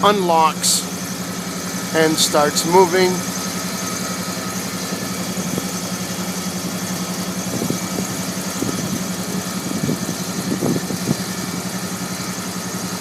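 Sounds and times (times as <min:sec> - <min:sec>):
convertible top motor humming: 0:00.0 - 0:13.0.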